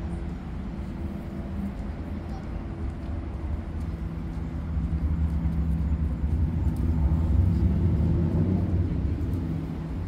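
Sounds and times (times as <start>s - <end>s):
vehicle engine rumble passing: 0.0s - 10.0s.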